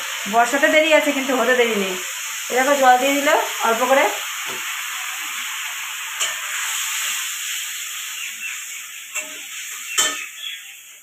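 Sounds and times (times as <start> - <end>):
spice paste sizzling: 0.0 - 11.0.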